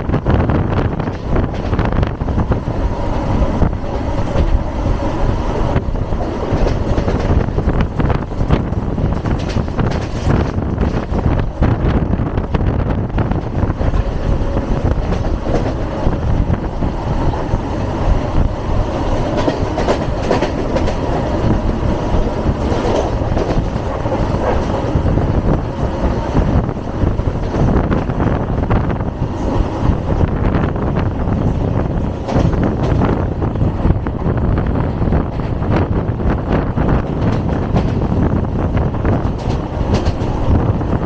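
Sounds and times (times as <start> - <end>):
train rumble: 0.0 - 41.0
wheels clattering over rail joints: 0.8 - 41.0.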